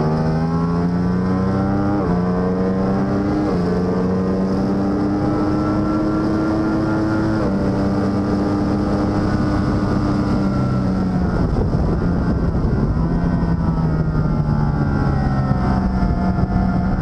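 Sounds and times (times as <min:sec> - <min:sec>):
racing motorcycle engine revving: 0:00.0 - 0:17.0.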